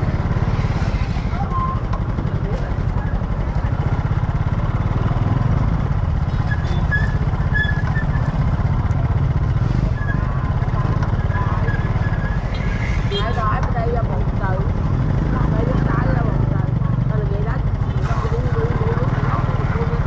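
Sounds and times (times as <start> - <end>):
open-air market noise: 0.0 - 20.0
small engine rumbling: 0.0 - 20.0.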